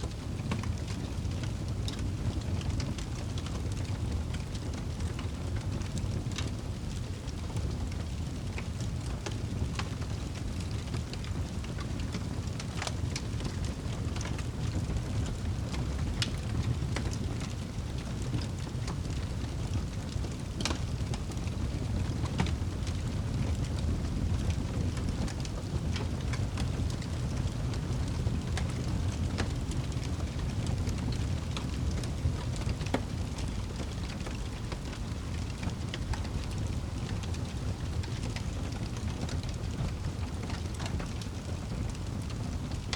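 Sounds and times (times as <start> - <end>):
fire crackling in fireplace: 0.0 - 42.9.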